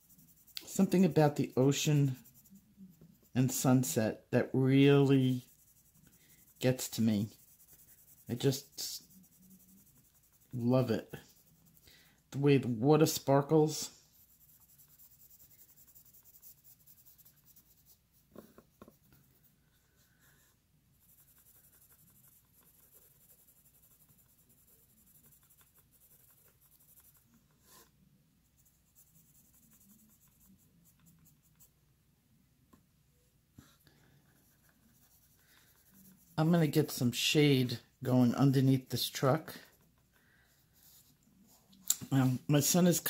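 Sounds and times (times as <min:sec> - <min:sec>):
pencil scratching on paper: 0:00.0 - 0:31.8, 0:33.6 - 0:37.0, 0:37.6 - 0:41.6.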